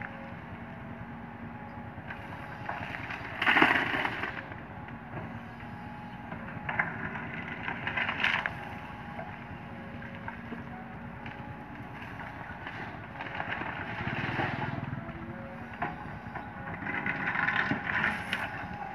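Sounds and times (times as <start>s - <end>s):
excavator engine running: 0.0s - 18.9s
excavator scraping and rattling: 0.1s - 18.9s.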